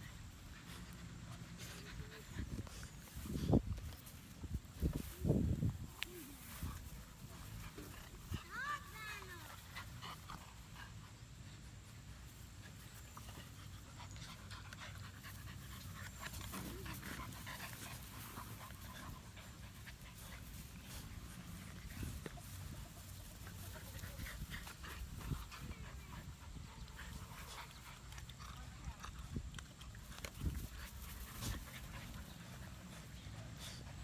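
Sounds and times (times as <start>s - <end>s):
puppies panting: 0.0s - 5.6s, 6.3s - 34.0s
rope and grass rustling: 0.0s - 34.0s.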